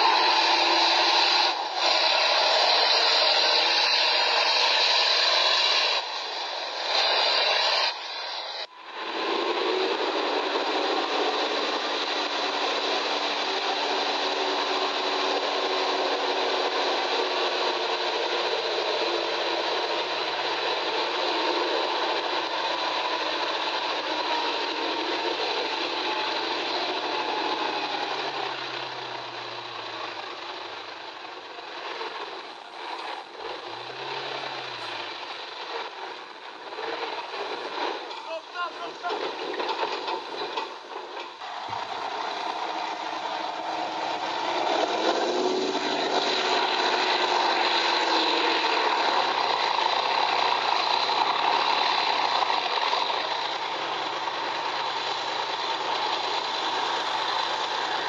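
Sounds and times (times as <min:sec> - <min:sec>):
tank engine and tracks: 0:00.0 - 0:58.0.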